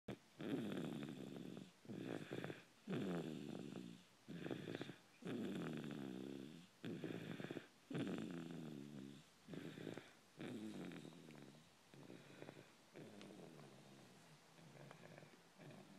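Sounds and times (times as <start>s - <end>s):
rhythmic snoring: 0.1s - 15.9s.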